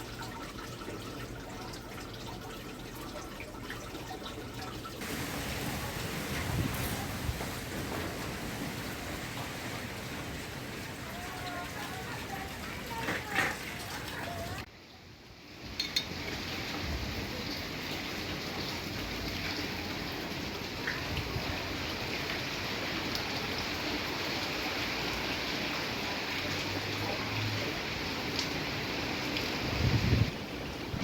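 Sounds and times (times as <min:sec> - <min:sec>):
windstorm with rain: 0:05.0 - 0:31.0.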